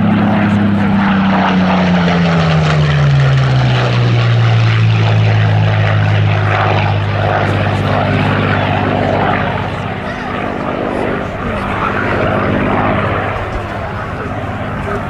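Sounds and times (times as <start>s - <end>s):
aircraft engine flying past: 0.0s - 15.0s.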